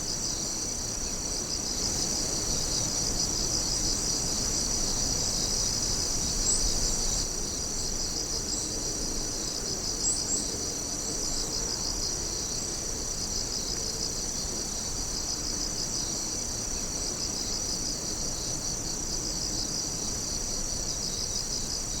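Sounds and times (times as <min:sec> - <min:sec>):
crickets and insects chirping: 0:00.0 - 0:22.0
higher insect chirps: 0:00.0 - 0:22.0.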